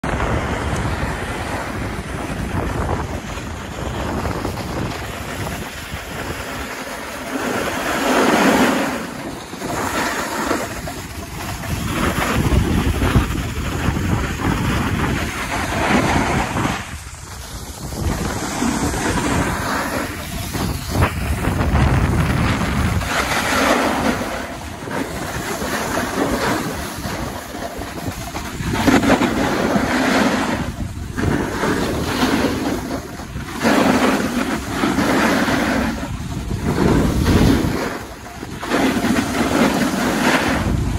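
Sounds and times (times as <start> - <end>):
wind rushing over microphone: 0.0 - 40.9
skis scraping on snow: 0.1 - 40.9.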